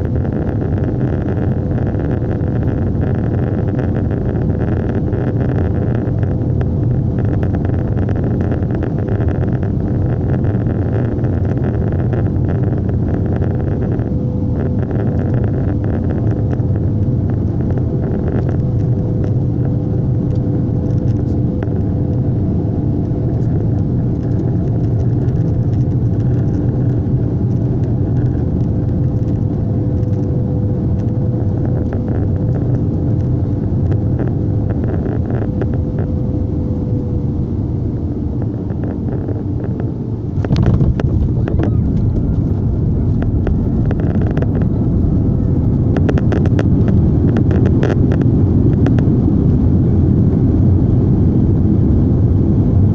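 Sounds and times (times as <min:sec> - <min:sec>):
jet engine drone in airliner cabin: 0:00.0 - 0:52.9
steady hum: 0:00.0 - 0:52.9.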